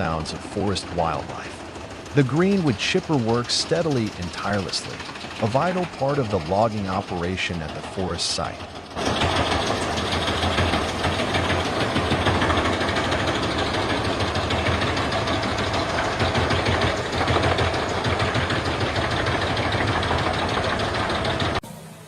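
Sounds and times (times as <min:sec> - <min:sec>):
wood chipper shredding logs: 0:00.0 - 0:21.6.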